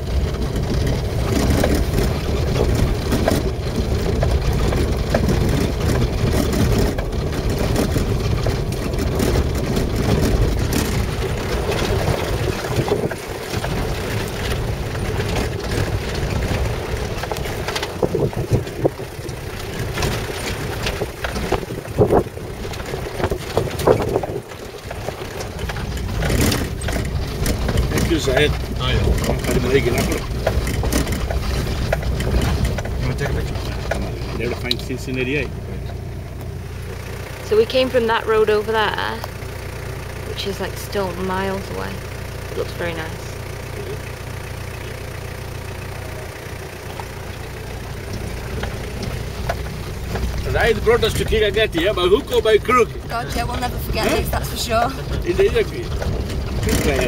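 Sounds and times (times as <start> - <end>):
knocks and rattles over bumps: 0.0 - 57.0
vehicle engine and tyre rumble: 0.0 - 57.0.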